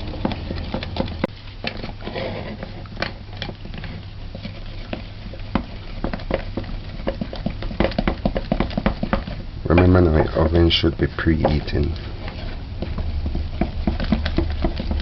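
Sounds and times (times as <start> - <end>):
wooden spoon stirring batter: 0.0 - 15.0.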